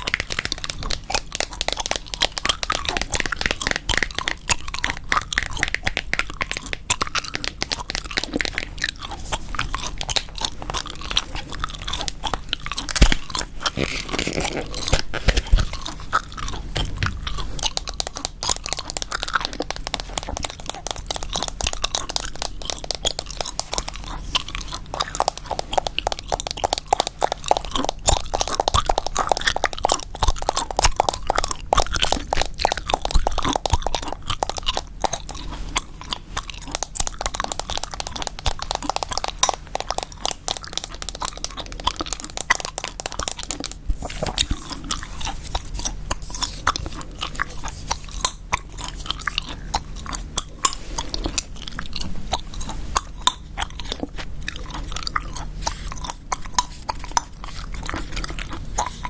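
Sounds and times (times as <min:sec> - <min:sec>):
gum chewing: 0:00.0 - 0:59.0.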